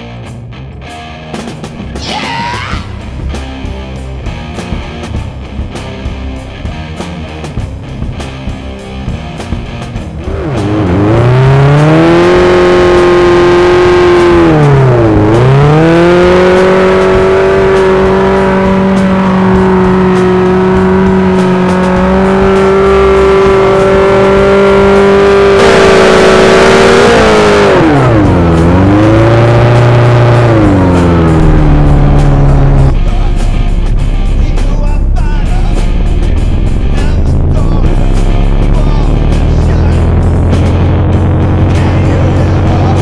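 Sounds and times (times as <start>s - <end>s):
motorcycle engine revving: 2.9s - 43.0s.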